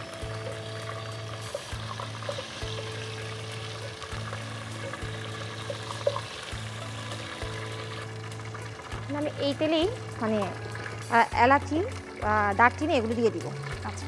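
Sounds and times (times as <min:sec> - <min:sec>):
background music of sustained chords: 0:00.0 - 0:14.0
chicken sizzling in oil: 0:00.0 - 0:14.0.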